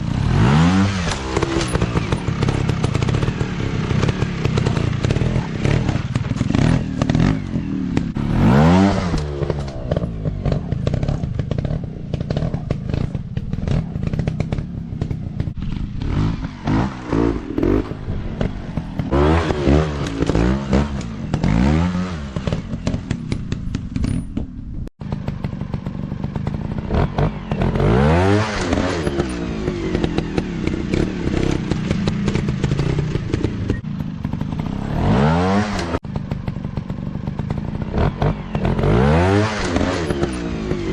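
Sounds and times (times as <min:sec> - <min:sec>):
dirt bike engine revving: 0:00.0 - 0:24.2, 0:25.0 - 0:40.9
sharp knocks and clatters: 0:00.9 - 0:08.2, 0:09.0 - 0:40.9.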